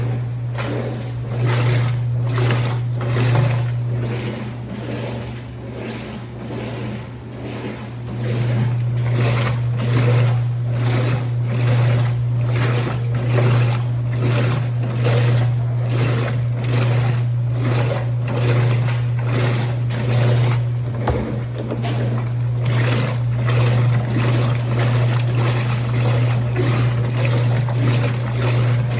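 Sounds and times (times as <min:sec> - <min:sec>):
washing machine hum: 0:00.0 - 0:28.9.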